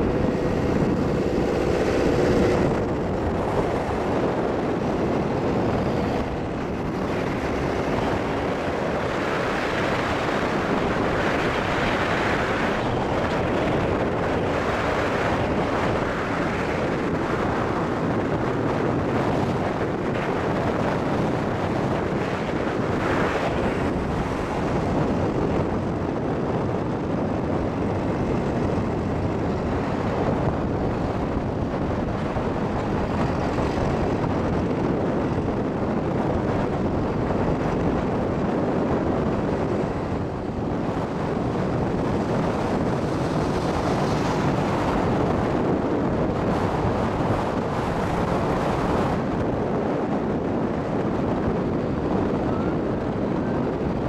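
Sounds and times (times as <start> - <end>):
truck road and engine noise: 0.0 - 54.0
wind buffeting microphone: 0.0 - 54.0.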